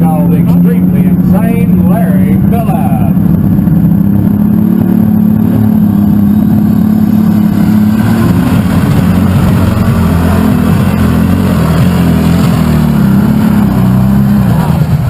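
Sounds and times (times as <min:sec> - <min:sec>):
tractor engine at high revs: 0:00.0 - 0:15.0.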